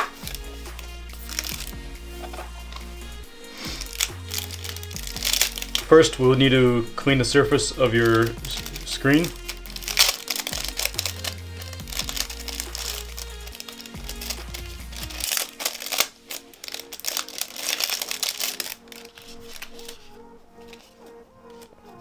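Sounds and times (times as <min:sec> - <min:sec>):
background music with bass: 0:00.0 - 0:18.5
packaging crinkling: 0:00.0 - 0:22.0.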